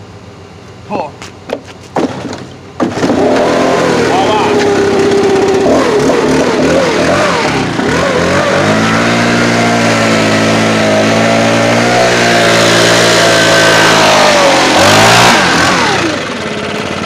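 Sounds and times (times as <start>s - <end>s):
leaf blower engine running: 2.0s - 17.0s.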